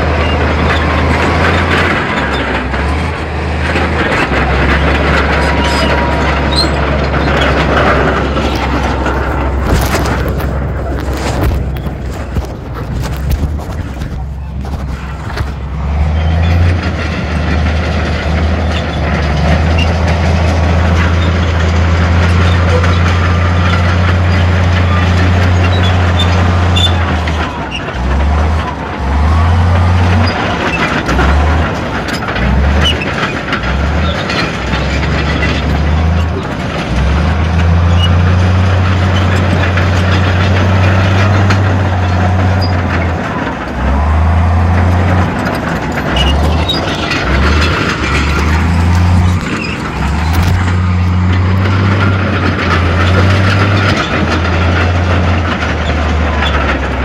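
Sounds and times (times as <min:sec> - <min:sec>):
heavy diesel machinery rumbling: 0:00.0 - 0:57.0.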